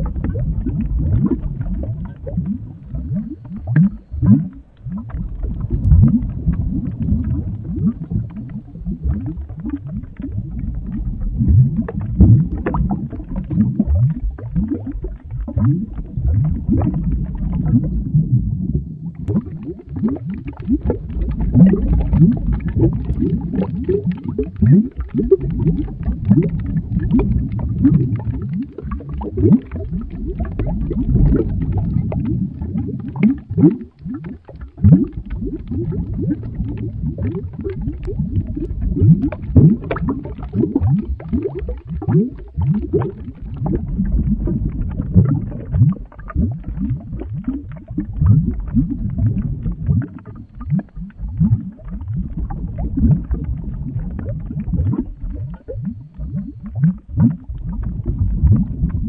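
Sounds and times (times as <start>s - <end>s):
liquid boiling and bubbling: 0.0s - 59.0s.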